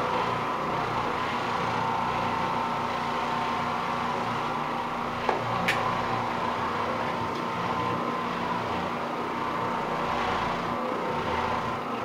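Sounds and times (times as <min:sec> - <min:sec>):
floor machine motor hum: 0:00.0 - 0:12.0.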